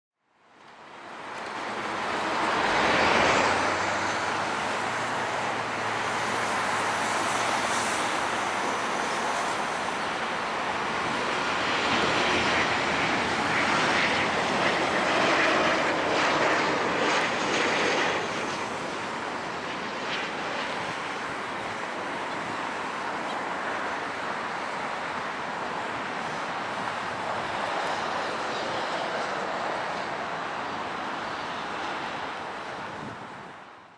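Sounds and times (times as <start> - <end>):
jet airliner engines roaring: 0.5 - 33.9.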